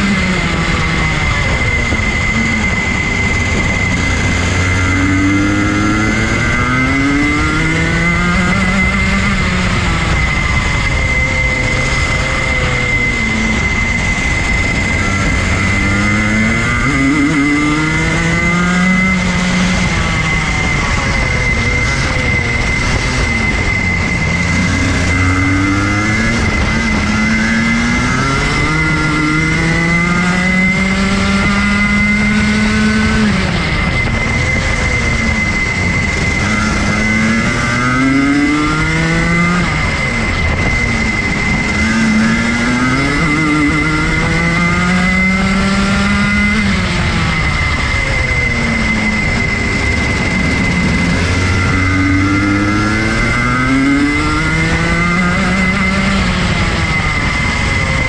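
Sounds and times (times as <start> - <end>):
kart engine revving: 0.0 - 58.0
wind and road noise: 0.0 - 58.0.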